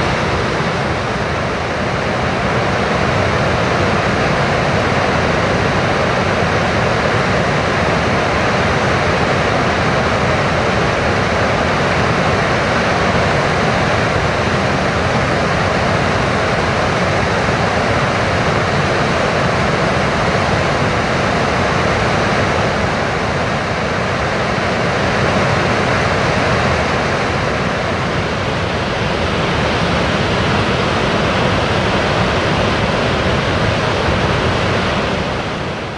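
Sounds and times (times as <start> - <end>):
rush of fast-moving water: 0.0 - 35.9.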